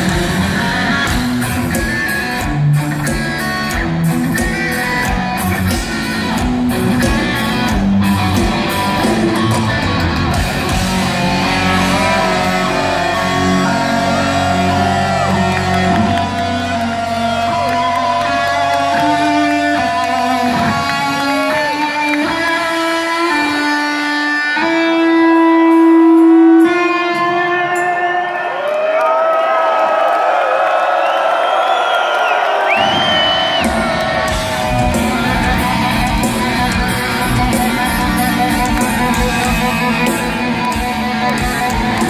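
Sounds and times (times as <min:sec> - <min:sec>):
drums: 0:00.0 - 0:28.0, 0:32.1 - 0:42.0
bass guitar: 0:00.0 - 0:28.2, 0:32.8 - 0:42.0
heavy metal band playing: 0:00.0 - 0:28.4, 0:32.7 - 0:42.0
distorted electric guitar: 0:00.0 - 0:28.5, 0:32.8 - 0:42.0.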